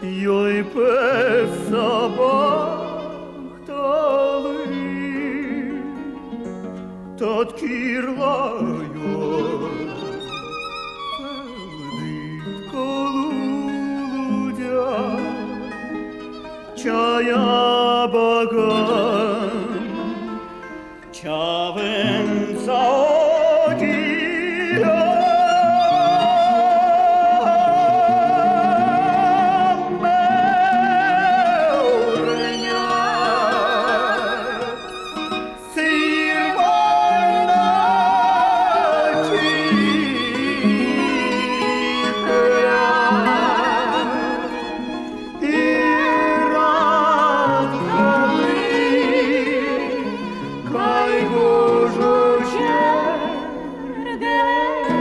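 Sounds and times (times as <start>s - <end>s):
person singing with vibrato: 0.0s - 6.3s, 7.2s - 16.0s, 16.7s - 55.0s
instrumental accompaniment: 0.0s - 17.8s, 18.5s - 55.0s.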